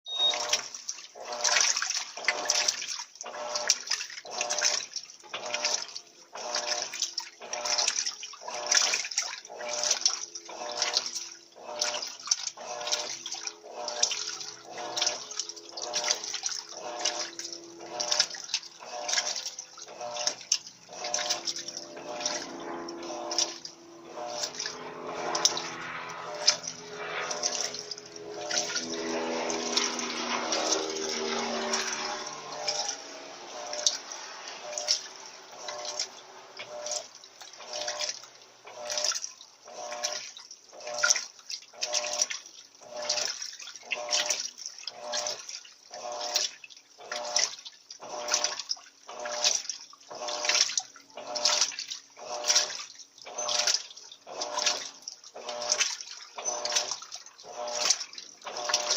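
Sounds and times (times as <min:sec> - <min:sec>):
washing machine agitating water: 0:00.0 - 0:58.9.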